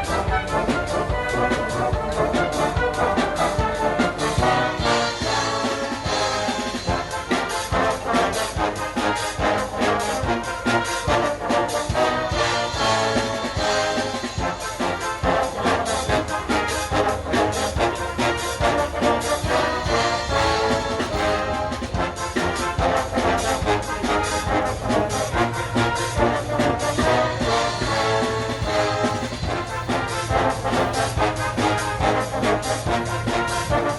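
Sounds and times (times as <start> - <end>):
band music with brass: 0.0 - 33.9.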